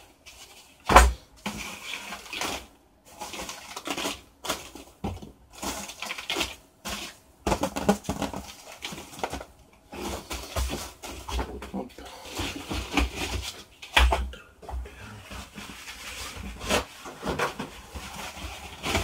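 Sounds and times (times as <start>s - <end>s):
shredded paper rustling and crinkling: 0.0s - 13.8s, 15.1s - 19.0s.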